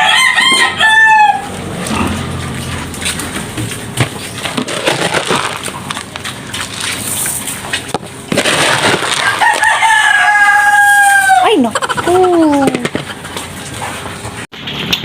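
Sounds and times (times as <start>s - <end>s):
pigs crunching dry feed: 0.0s - 15.0s.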